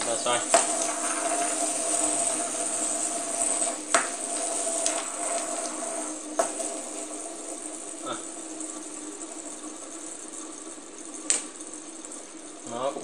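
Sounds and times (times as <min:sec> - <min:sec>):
spinning tops whirring on wood: 0:00.0 - 0:13.0.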